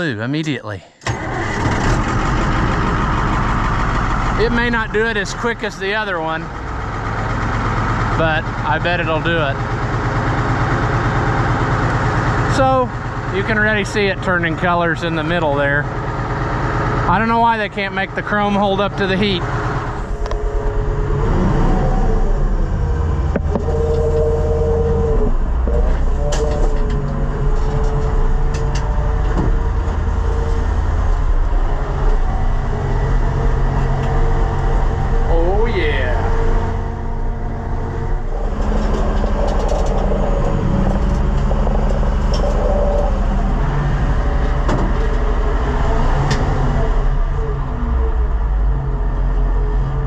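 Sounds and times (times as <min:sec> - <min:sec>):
tractor diesel engine running: 0:01.0 - 0:50.0.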